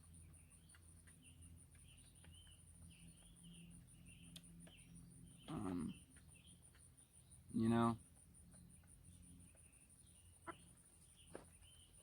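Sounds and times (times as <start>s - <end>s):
soft bird chirps: 0.0s - 12.0s.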